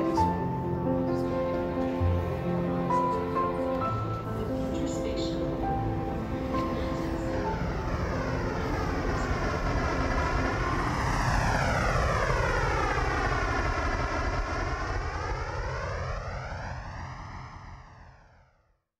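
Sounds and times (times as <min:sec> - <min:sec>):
jet airliner passing overhead: 0:00.0 - 0:18.7.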